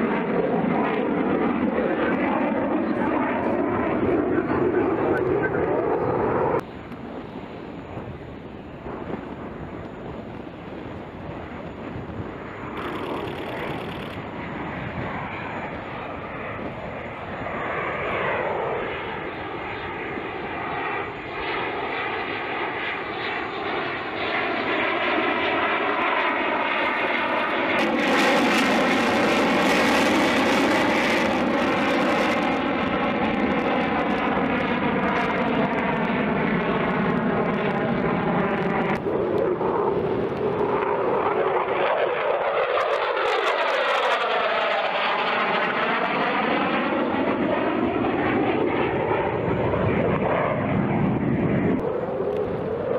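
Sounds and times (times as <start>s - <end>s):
fighter jet afterburner roar: 0.0s - 52.9s.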